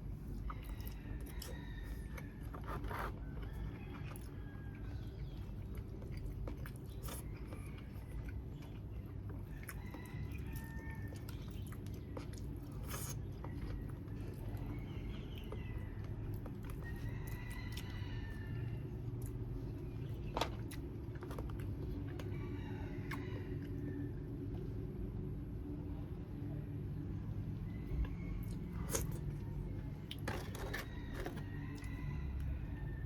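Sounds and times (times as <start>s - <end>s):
person chewing food: 0.0s - 24.9s, 27.9s - 32.6s.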